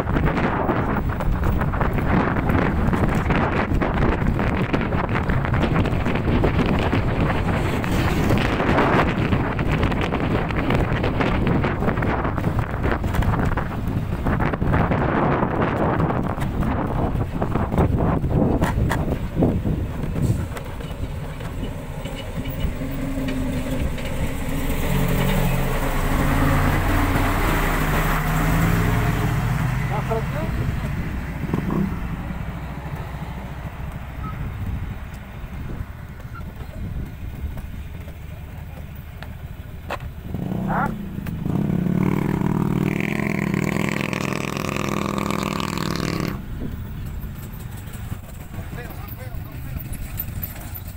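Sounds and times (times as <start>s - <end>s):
truck diesel engine passing: 0.0s - 50.9s
tyres rushing on dirt road: 0.0s - 50.9s.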